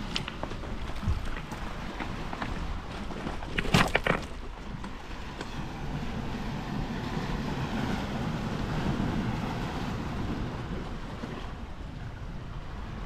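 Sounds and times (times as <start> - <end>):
sea waves: 0.0 - 13.0
wind: 0.0 - 13.0
wind buffeting microphone: 0.0 - 13.0.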